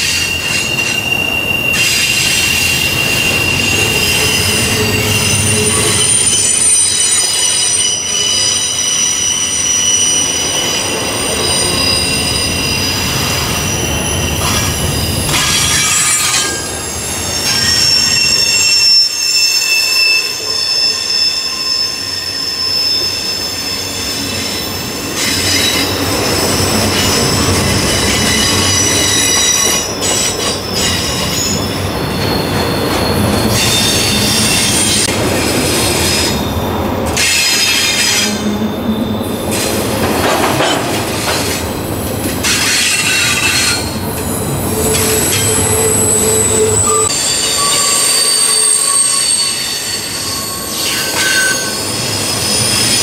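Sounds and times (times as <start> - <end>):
freight train rolling: 0.0 - 53.0
wheels squealing on rail: 0.0 - 53.0.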